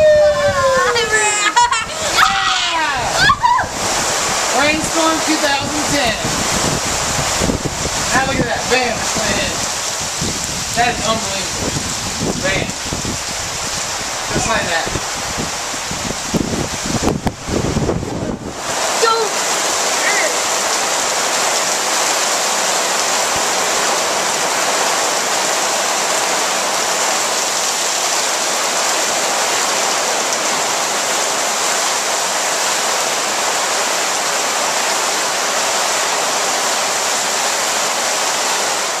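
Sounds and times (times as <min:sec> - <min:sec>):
heavy rain on water: 0:00.0 - 0:39.0.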